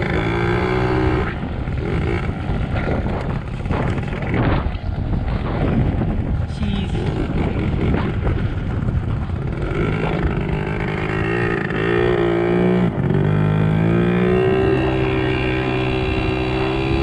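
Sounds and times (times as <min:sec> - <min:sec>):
small motorcycle engine revving: 0:00.0 - 0:04.6, 0:06.9 - 0:17.0.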